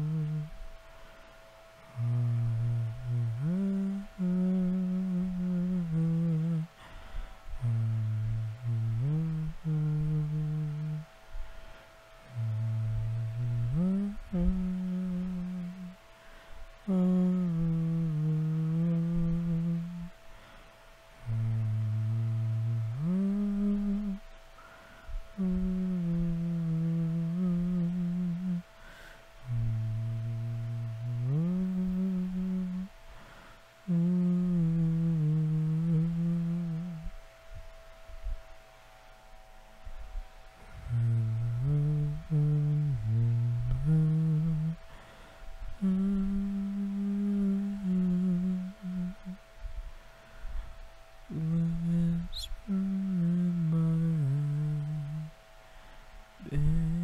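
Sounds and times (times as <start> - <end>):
man humming a slow melody: 0.0 - 57.0.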